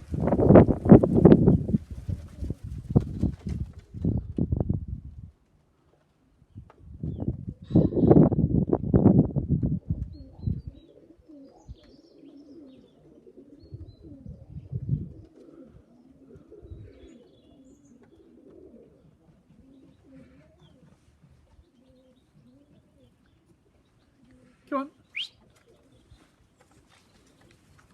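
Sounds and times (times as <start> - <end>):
pigeons cooing: 0.0 - 4.3, 6.2 - 27.9.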